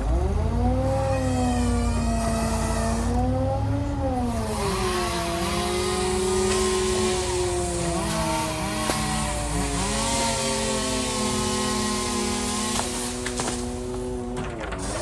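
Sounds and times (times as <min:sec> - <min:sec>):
chainsaw engine revving: 0:00.0 - 0:15.0.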